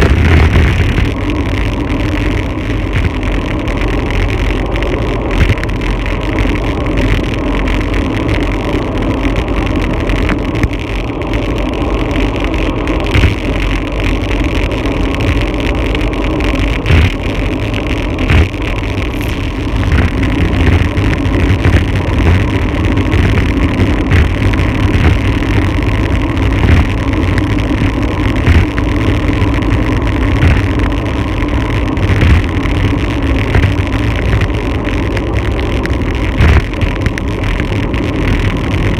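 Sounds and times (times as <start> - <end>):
wind buffeting thumps: 0.0 - 4.5, 5.1 - 38.9
bike tyre road noise: 0.0 - 38.9
wind rushing over microphone: 0.0 - 38.9.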